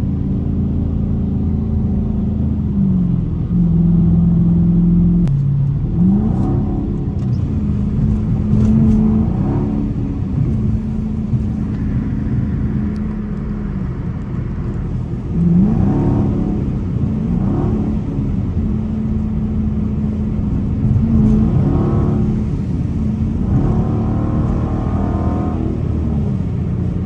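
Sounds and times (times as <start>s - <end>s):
car engine from inside cabin: 0.0s - 27.0s
tyre noise on wet road: 5.2s - 27.0s.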